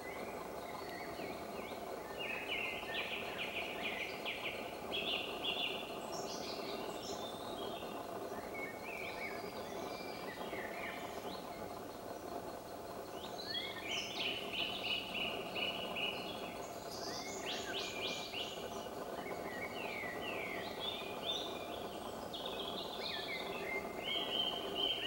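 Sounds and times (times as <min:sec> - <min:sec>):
songbirds singing: 0:00.0 - 0:25.0
steady background noise: 0:00.0 - 0:25.0.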